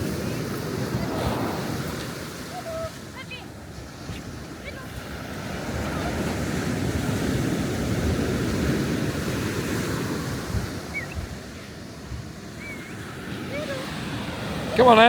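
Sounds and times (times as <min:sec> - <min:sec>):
wind on microphone: 0:00.0 - 0:14.8
sea waves breaking: 0:00.0 - 0:15.0.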